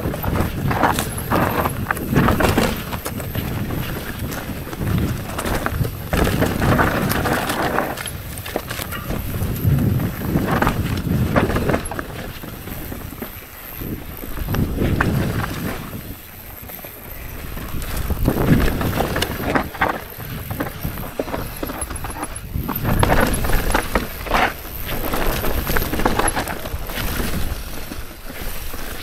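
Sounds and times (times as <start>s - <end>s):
bike rattling and knocking: 0.0s - 29.0s
bike tyres rumbling over rock: 0.0s - 29.0s.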